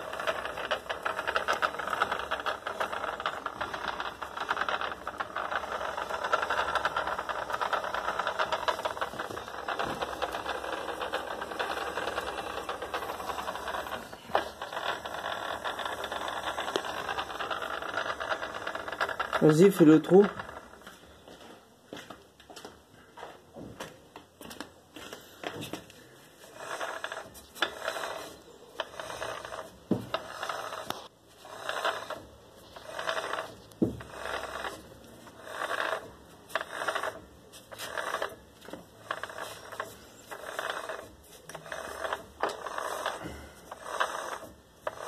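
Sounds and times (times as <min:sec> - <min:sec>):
gearbox mechanical noise: 0:00.0 - 0:21.0, 0:26.4 - 0:45.0.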